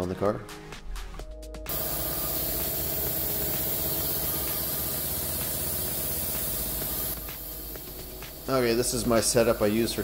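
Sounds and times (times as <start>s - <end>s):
air compressor motor hum: 1.7s - 10.0s
compressed air hissing: 1.7s - 10.0s.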